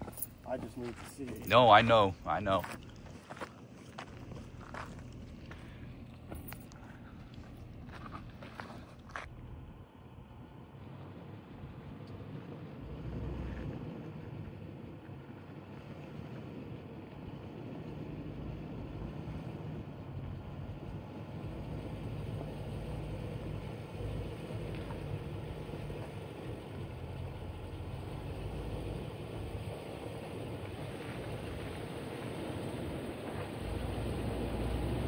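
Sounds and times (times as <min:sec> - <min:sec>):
engine running at low revs: 0:00.0 - 0:35.0.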